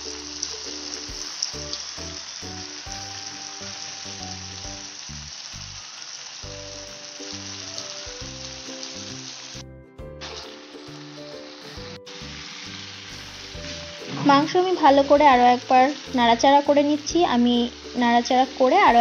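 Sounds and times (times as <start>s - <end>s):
low background music: 0.0s - 5.8s, 6.4s - 19.0s
food sizzling in a frying pan: 0.0s - 19.0s.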